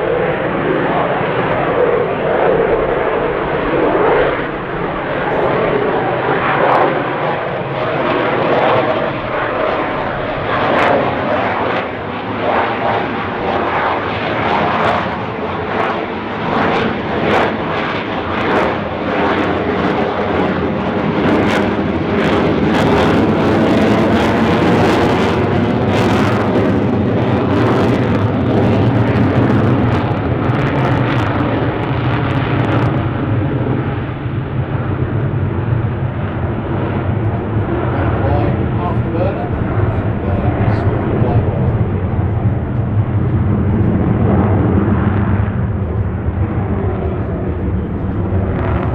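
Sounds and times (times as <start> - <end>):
jet engine roar: 0.0 - 48.9.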